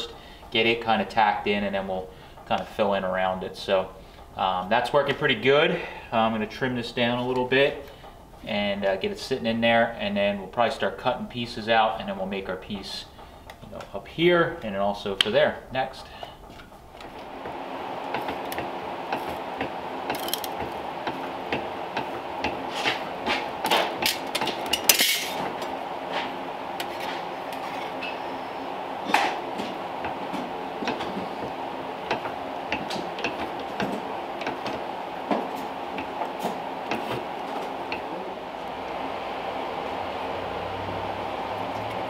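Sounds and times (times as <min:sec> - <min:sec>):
mechanical hum: 0:00.0 - 0:42.0.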